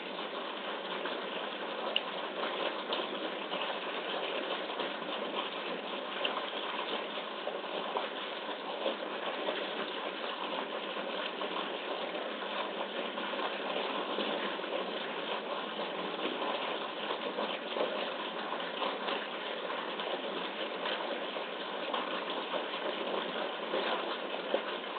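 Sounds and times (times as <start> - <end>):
water gushing into a pool: 0.0 - 24.9.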